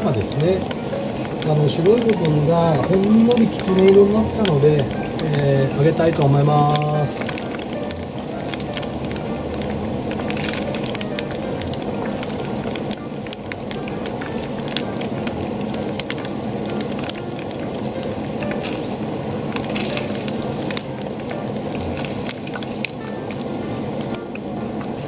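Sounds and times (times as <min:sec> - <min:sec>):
oil popping and crackling: 0:00.0 - 0:25.0
tofu sizzling in hot oil: 0:00.0 - 0:25.0.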